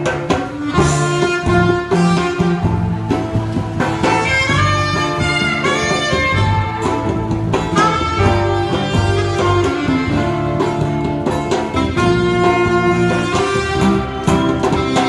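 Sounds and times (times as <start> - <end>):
guitars playing: 0.0 - 15.0
hand drum: 0.0 - 15.0
saxophone melody: 0.0 - 15.0.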